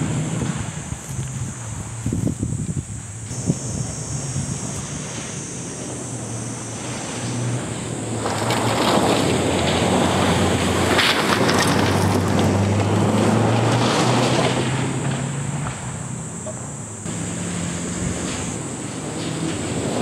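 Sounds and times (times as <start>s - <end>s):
rally car engine at full throttle: 0.0s - 2.2s, 3.2s - 20.0s
gravel spraying from tyres: 0.0s - 20.0s.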